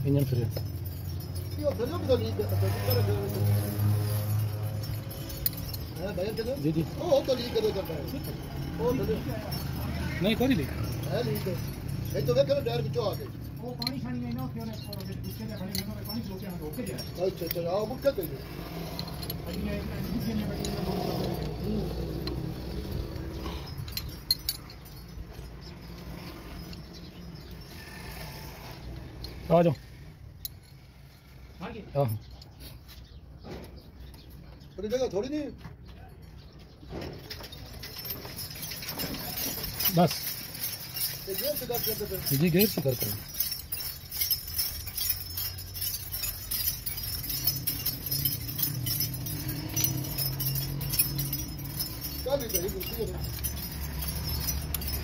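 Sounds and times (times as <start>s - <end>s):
spanners clinking on metal: 0.0s - 55.0s.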